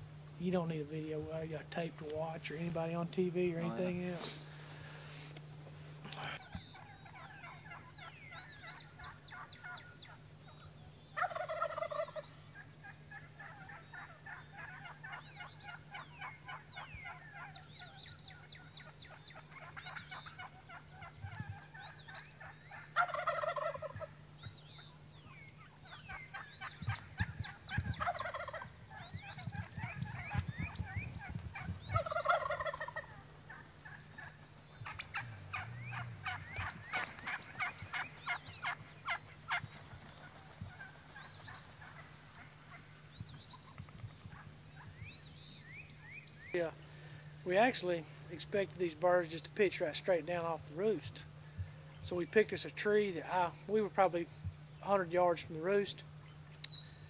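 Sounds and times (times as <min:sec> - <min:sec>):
turkey hens yelping and clucking: 0:02.4 - 0:57.0
turkeys gobbling: 0:06.0 - 0:56.6.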